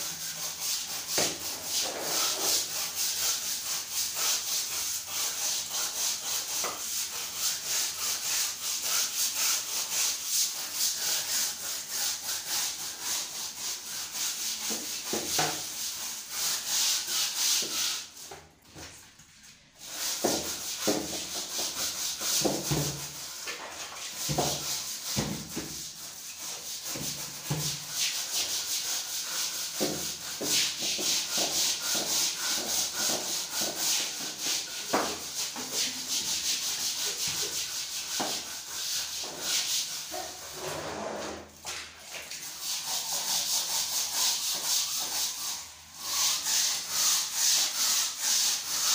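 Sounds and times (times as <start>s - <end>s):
brush scrubbing floor tiles: 0.0s - 48.9s.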